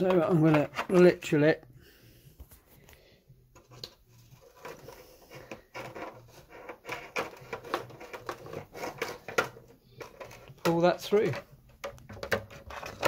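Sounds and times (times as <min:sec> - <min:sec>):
rustling scraping and clicking: 0:00.0 - 0:01.3, 0:03.6 - 0:13.0.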